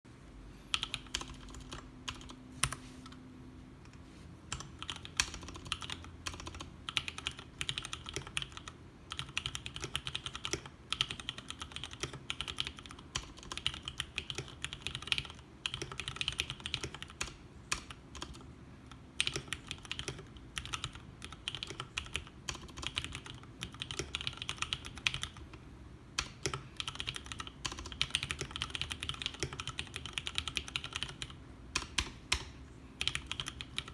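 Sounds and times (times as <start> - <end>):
mechanical keyboard typing: 0.7 - 2.8, 4.5 - 25.6, 26.2 - 33.9.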